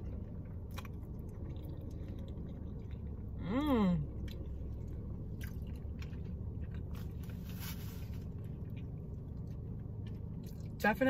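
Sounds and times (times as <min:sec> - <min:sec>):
person chewing: 0:00.0 - 0:10.8
low rumble: 0:00.0 - 0:11.0.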